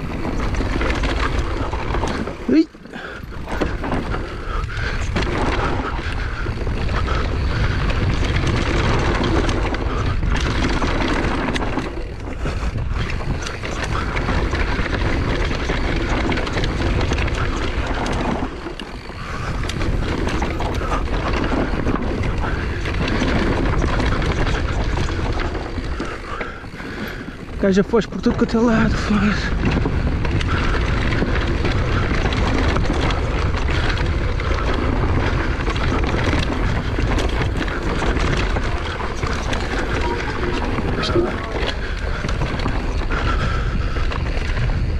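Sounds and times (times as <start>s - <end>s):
mountain bike rumbling and rattling: 0.0s - 44.9s
wind buffeting microphone: 0.0s - 44.9s.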